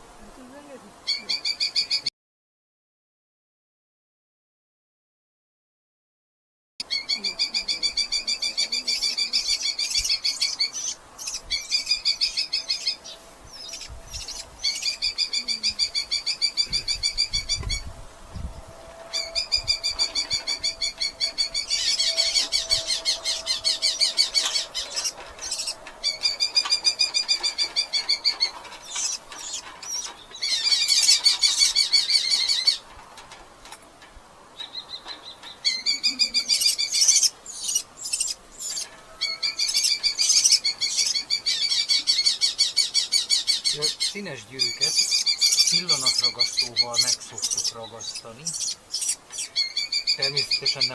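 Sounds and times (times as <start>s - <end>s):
falcons calling: 6.8s - 17.9s, 18.6s - 33.0s, 34.5s - 50.9s.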